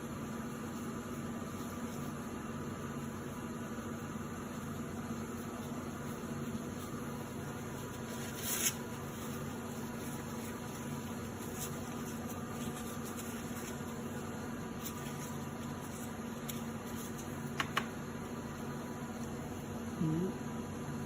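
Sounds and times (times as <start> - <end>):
mechanical hum of equipment: 0.0 - 21.0.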